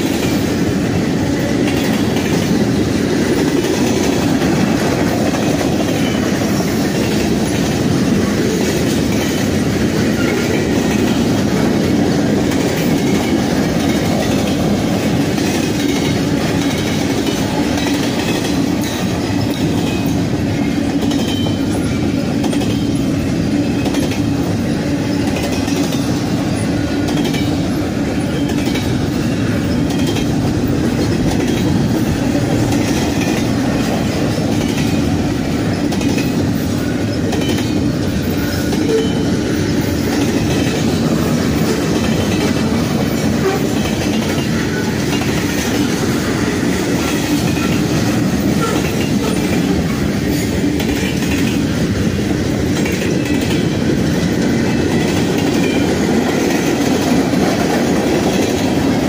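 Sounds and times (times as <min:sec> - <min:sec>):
train wheels rumbling on rails: 0:00.0 - 0:59.0
wheels clacking over rail joints: 0:00.0 - 0:59.0.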